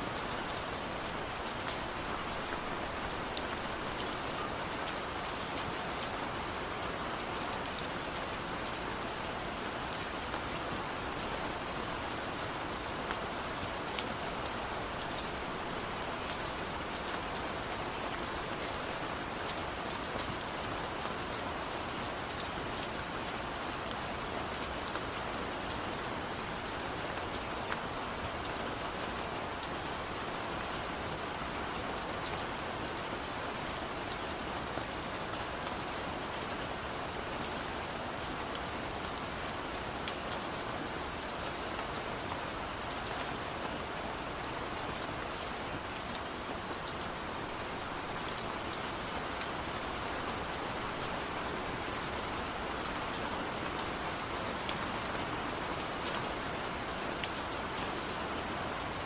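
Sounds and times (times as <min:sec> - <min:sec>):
steady rain hiss: 0:00.0 - 0:59.0
ticks of raindrops: 0:00.1 - 0:59.0.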